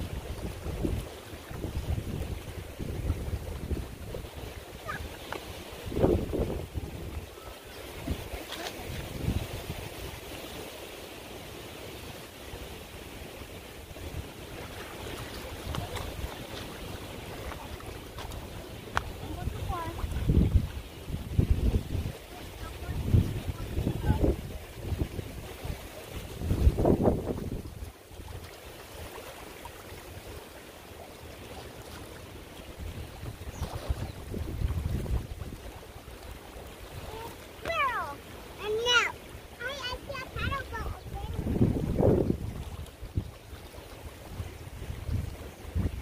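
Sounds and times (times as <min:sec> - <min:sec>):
wind buffeting microphone: 0:00.0 - 0:10.4, 0:13.8 - 0:28.5, 0:32.6 - 0:46.0
waves lapping against rocks: 0:00.0 - 0:46.0.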